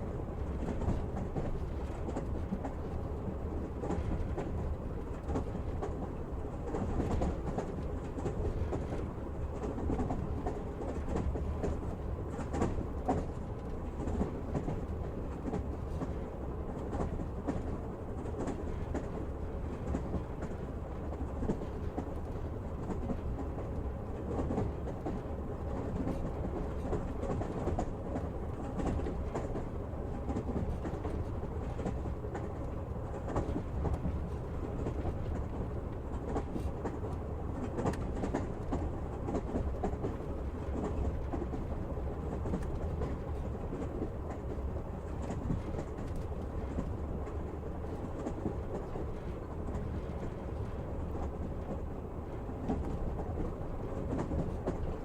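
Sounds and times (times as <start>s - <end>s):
rail clacks and clicks: 0.0s - 55.0s
train wheels rumbling on rails: 0.0s - 55.0s.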